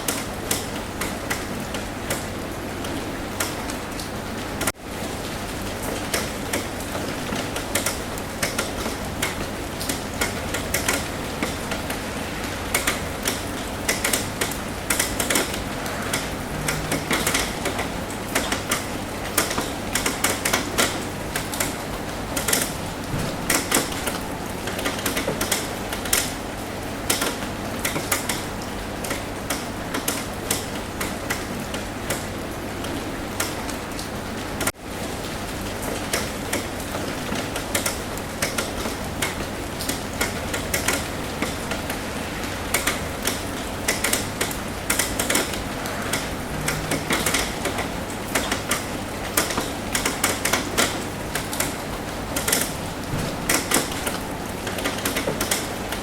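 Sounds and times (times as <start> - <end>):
rain tapping on a roof: 0.0 - 56.0.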